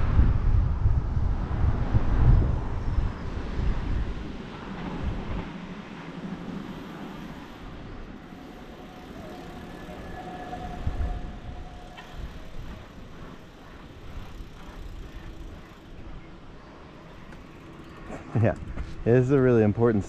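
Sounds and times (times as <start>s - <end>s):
faint whine: 0.0s - 20.0s
road traffic: 0.0s - 20.0s.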